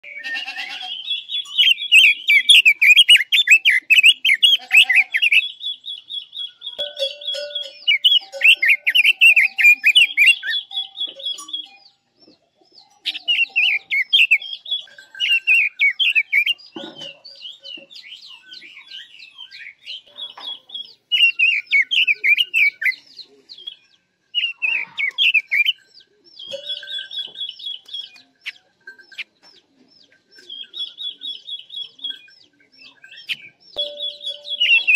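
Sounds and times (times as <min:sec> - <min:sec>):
bird high trills: 0:00.0 - 0:12.0, 0:12.8 - 0:23.1, 0:26.5 - 0:29.4, 0:30.5 - 0:34.9
bird singing warbled phrases: 0:00.0 - 0:34.9.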